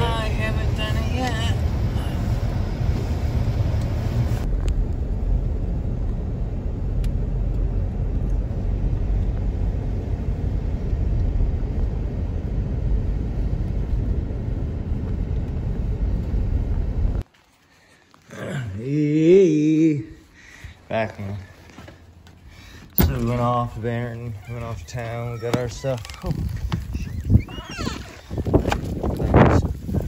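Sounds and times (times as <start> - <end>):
car engine and tyre rumble: 0.0 - 17.6, 20.4 - 30.0.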